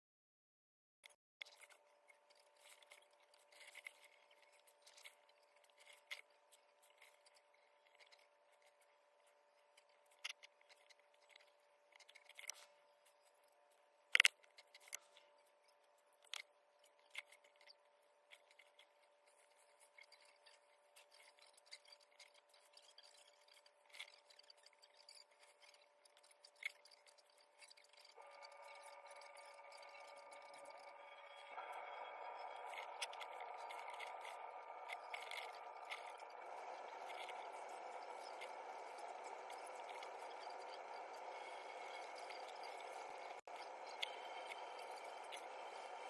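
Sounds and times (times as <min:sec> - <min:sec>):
faint steady hum: 0:01.4 - 0:46.0.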